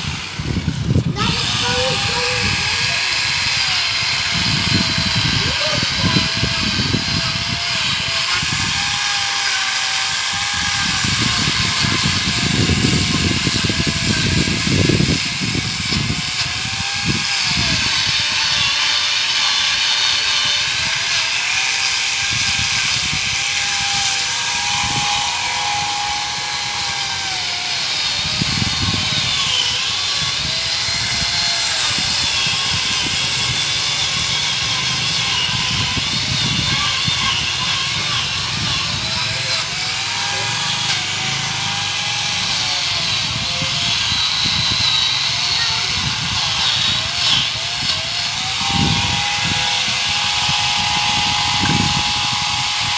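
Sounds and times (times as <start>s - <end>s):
angle grinder cutting wood: 0.0s - 52.9s.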